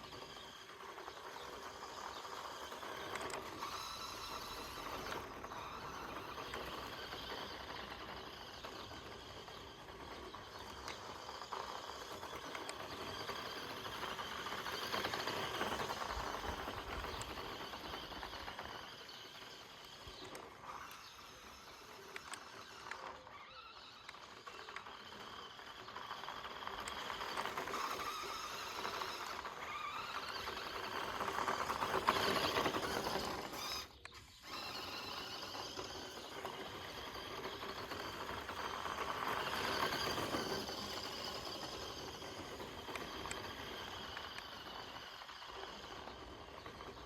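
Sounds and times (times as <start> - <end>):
rc car motor whining: 0.0 - 47.0.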